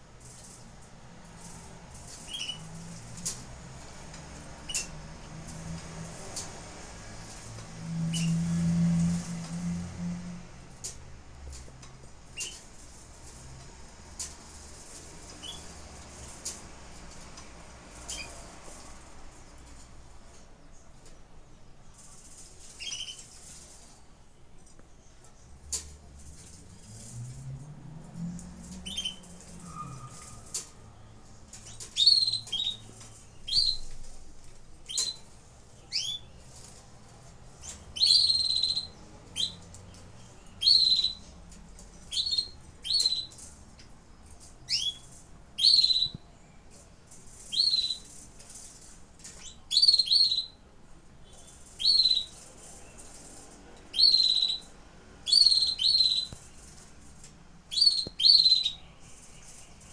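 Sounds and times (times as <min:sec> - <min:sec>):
canaries chirping: 0:00.0 - 0:59.9.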